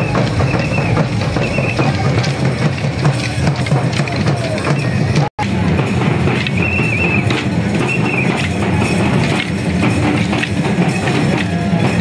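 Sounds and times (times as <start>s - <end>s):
barrel drums beating: 0.0s - 12.0s.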